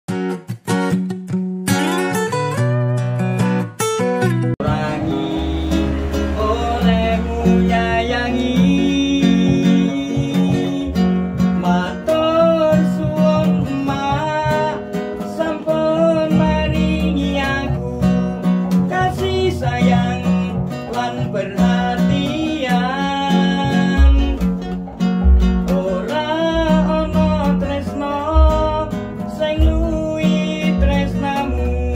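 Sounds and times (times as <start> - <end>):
acoustic guitar: 0.1 - 31.9
man singing: 4.6 - 31.9.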